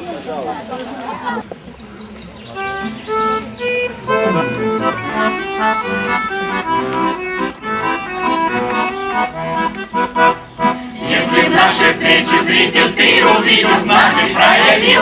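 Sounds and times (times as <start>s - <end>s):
lively instrumental melody: 2.5s - 15.0s.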